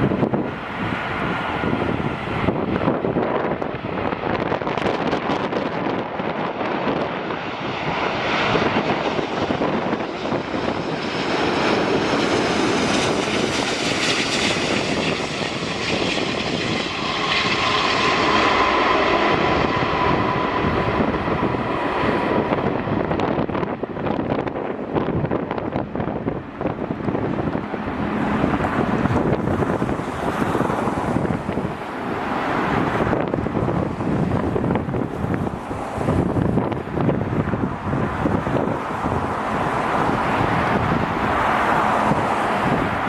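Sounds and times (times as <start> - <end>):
airliner engines passing by: 0.0 - 43.0
steady engine whine: 0.0 - 43.0.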